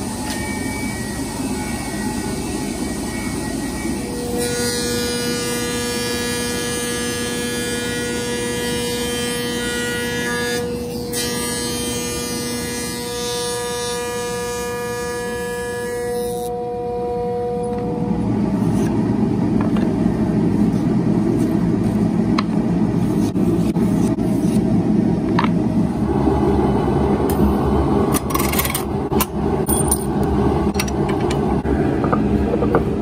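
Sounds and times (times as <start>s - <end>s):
woodworking machine whine: 0.0s - 33.0s.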